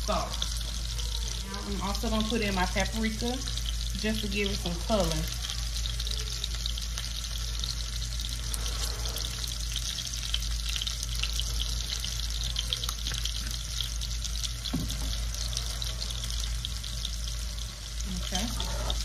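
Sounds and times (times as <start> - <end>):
sauce sizzling in a pan: 0.0 - 19.0.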